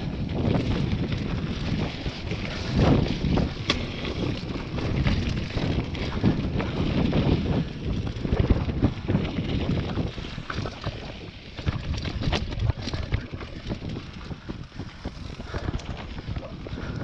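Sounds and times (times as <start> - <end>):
bike chain and frame clicking: 0.0 - 17.0
wind rushing over microphone: 0.0 - 17.0
tyres rolling over dirt: 0.1 - 17.0.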